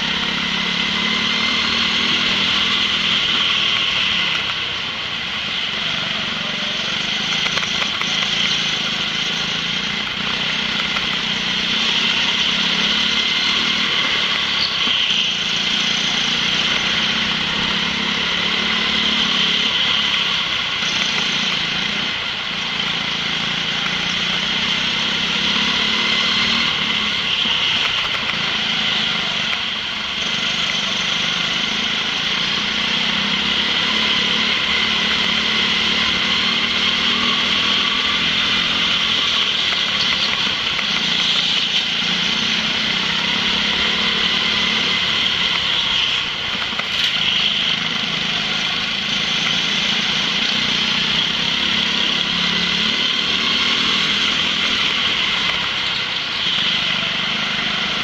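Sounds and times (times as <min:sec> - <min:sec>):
go-kart engine revving: 0:00.0 - 0:58.0.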